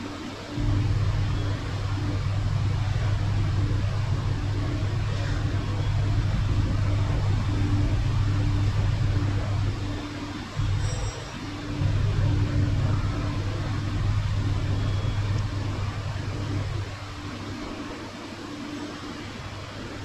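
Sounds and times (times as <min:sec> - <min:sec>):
faint pulsing tone: 0:00.0 - 0:20.0
low mechanical hum: 0:00.0 - 0:20.0.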